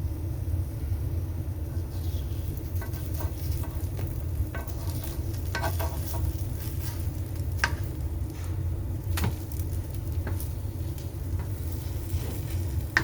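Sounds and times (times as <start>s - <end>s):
bread sizzling in oil: 1.6s - 13.0s.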